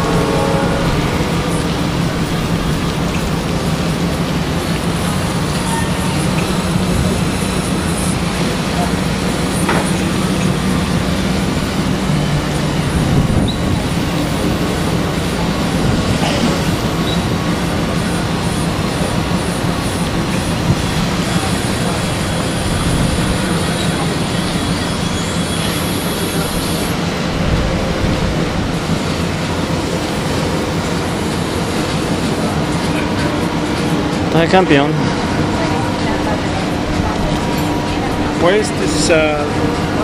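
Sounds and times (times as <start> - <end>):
locomotives rumbling on track: 0.0 - 40.0.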